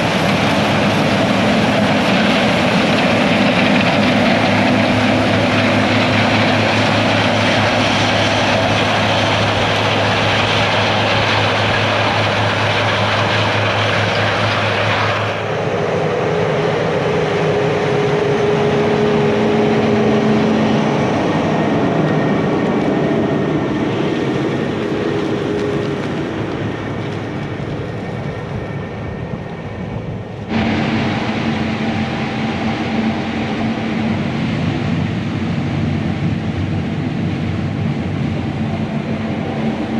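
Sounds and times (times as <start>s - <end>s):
diesel farm machinery droning: 0.0s - 39.9s.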